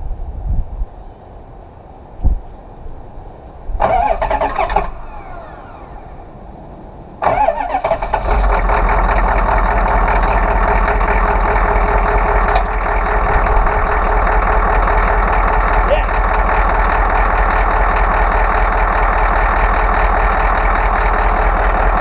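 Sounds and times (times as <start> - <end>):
diesel engine rumbling: 3.2 - 22.0
diesel engine cranking: 3.8 - 22.0.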